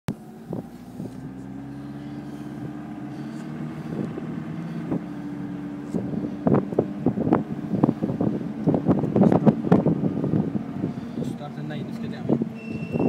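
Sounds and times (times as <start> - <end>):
car engine running: 0.1 - 13.0.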